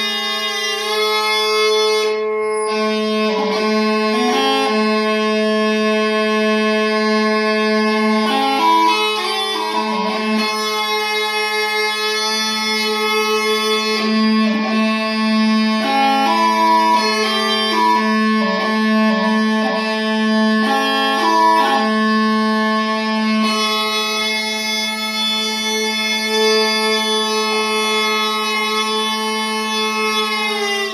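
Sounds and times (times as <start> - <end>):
smallpipes chanter melody: 0.0 - 30.9.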